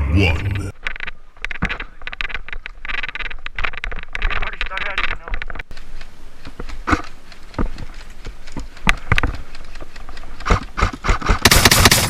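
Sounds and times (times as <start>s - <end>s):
rapid run of clicks: 2.3s - 12.0s.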